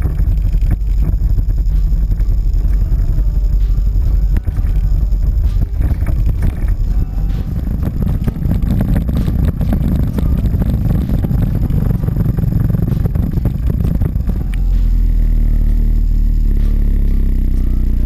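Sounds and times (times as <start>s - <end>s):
motorcycle engines rumbling: 0.0s - 18.0s.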